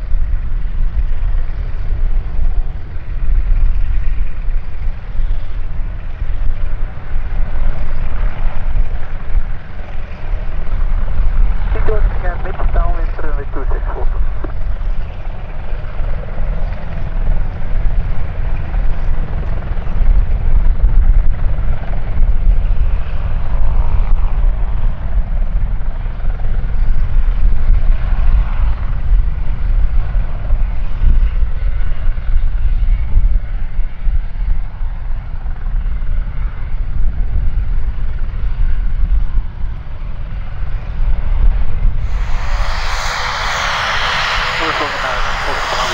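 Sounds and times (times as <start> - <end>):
helicopter rotor and turbine: 0.0 - 45.9.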